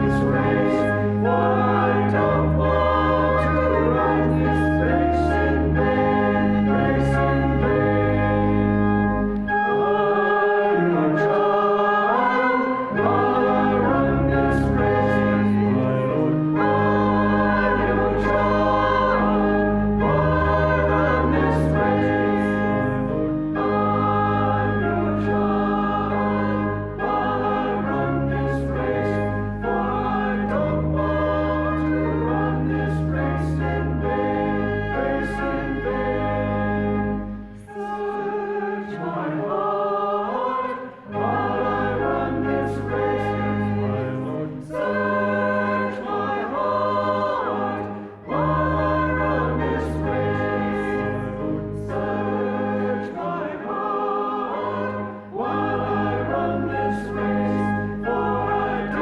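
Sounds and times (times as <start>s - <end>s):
choir singing: 0.0s - 59.0s
organ: 0.0s - 59.0s.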